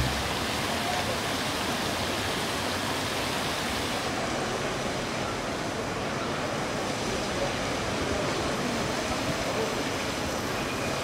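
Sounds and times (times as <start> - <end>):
fountain water splashing: 0.0 - 11.0
outdoor city hum: 0.0 - 11.0.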